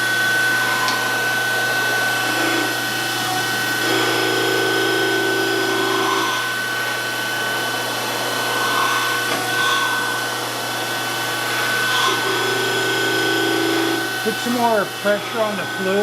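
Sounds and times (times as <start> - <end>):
surface grinder whining: 0.0 - 16.0
coarse buzz: 0.6 - 16.0.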